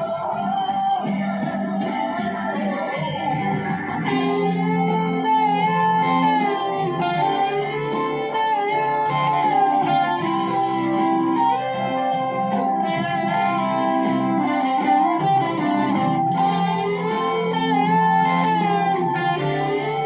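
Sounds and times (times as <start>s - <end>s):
electric guitar lead line: 0.0s - 20.0s.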